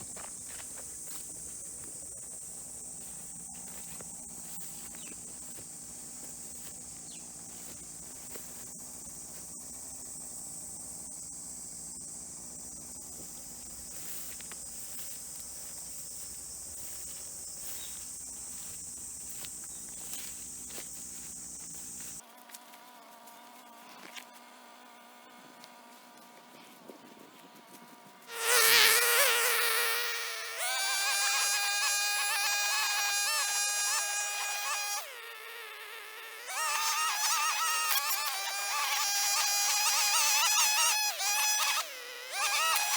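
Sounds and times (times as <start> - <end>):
cicadas chorus: 0.0 - 25.6, 27.3 - 42.9.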